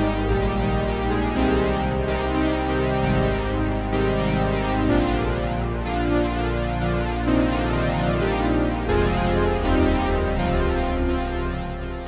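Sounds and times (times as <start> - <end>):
synthesizer chords over bass note: 0.0 - 12.0.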